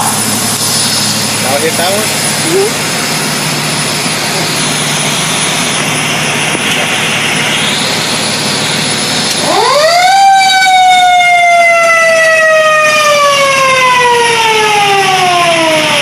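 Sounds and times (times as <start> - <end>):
fire truck siren winding: 0.0 - 16.0.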